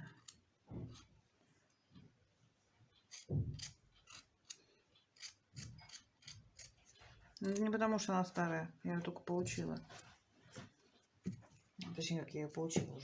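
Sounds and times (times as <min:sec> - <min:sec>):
wooden stick stirring paste: 0:00.0 - 0:13.0.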